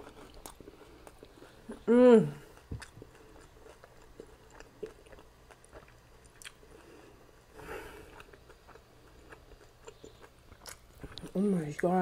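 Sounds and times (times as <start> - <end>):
chewing with wet mouth clicks: 0.0 - 1.8, 2.5 - 6.8, 8.1 - 12.0.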